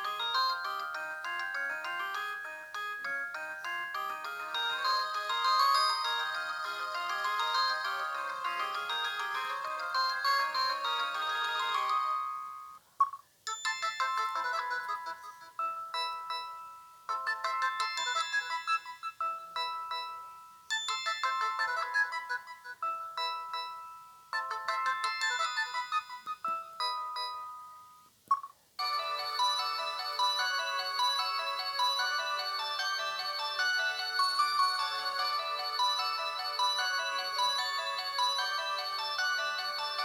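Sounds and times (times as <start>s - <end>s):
phone ringtone melody: 0.0s - 12.8s, 13.5s - 28.1s, 28.8s - 40.0s.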